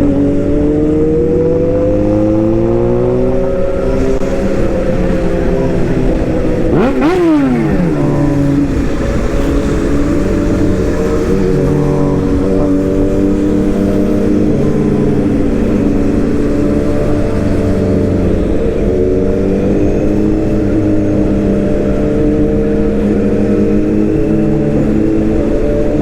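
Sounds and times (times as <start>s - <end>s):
excavator engine running: 3.6s - 25.6s.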